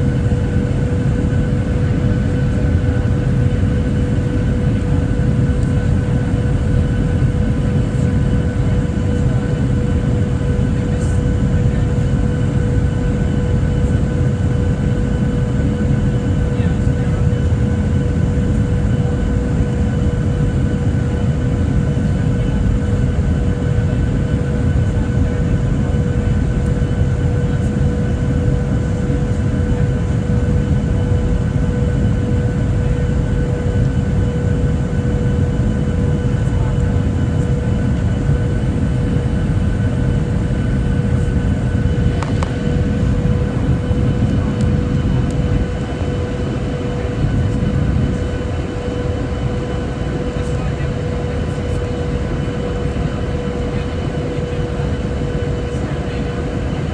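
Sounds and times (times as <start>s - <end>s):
airplane engine rumble: 0.0s - 56.9s
constant whine: 0.0s - 56.9s.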